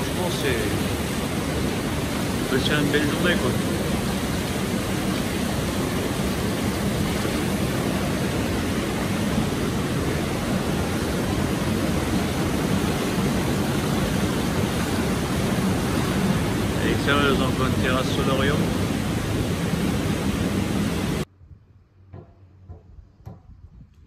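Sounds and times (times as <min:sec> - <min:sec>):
water churning in a spa pool: 0:00.0 - 0:21.3.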